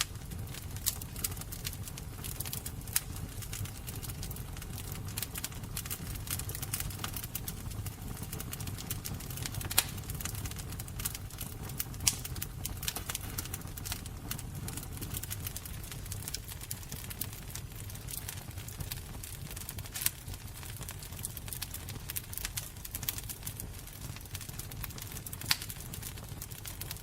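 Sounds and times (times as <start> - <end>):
low rumble of flames: 0.0 - 27.0
wood fire crackling and popping: 0.0 - 27.0.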